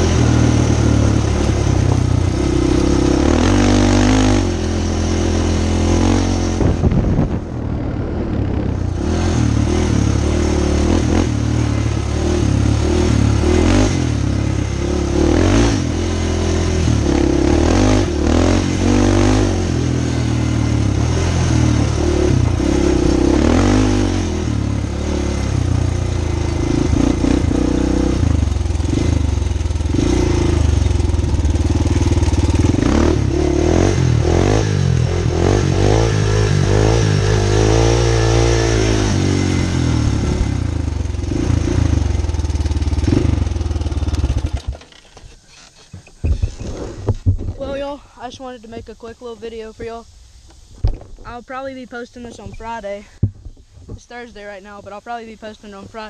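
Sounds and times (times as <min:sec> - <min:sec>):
quad engine revving: 0:00.0 - 0:45.0.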